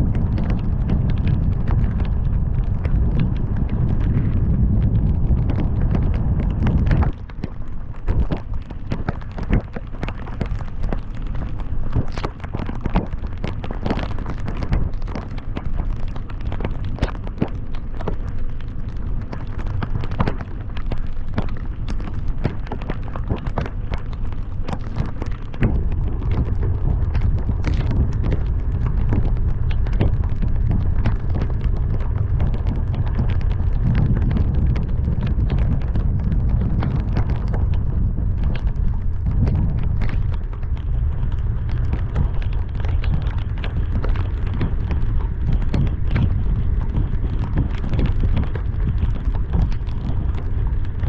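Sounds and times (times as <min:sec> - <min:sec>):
raindrops hitting car: 0:00.0 - 0:51.0
wind and road noise rumble: 0:00.0 - 0:51.0.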